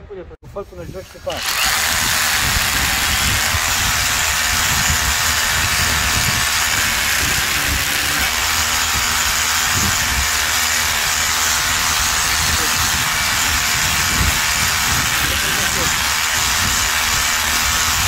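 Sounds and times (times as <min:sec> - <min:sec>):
rotary hammer drilling into concrete: 0:01.2 - 0:18.0.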